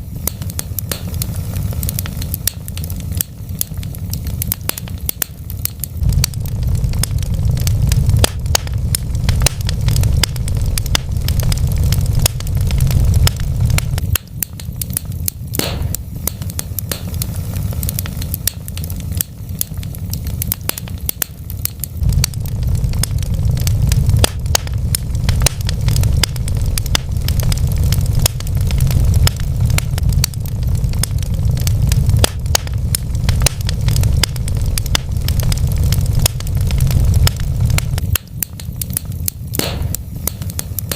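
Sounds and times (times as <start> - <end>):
low steady rumble: 0.0 - 40.9
wood fire crackling: 0.0 - 40.9.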